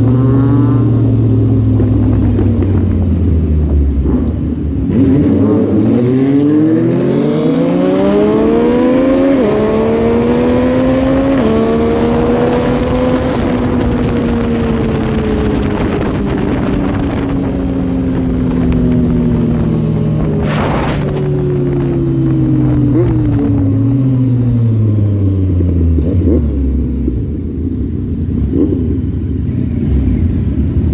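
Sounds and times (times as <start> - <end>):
motorcycle engine accelerating: 0.0 - 30.9.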